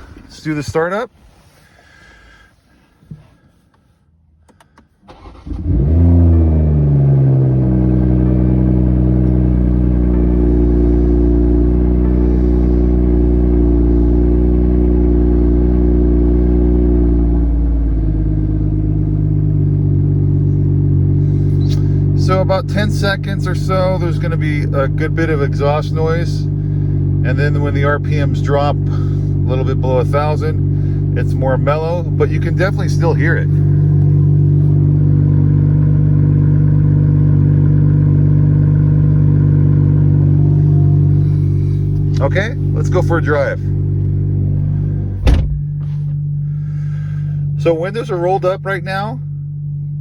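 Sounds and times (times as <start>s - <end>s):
car engine idling loudly: 4.6s - 50.0s.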